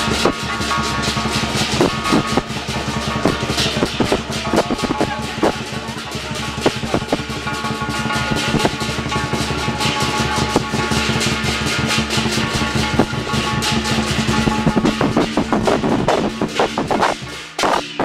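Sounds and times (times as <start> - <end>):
crashing cymbals: 0.0 - 18.0
drum beaten rapidly: 0.0 - 18.0.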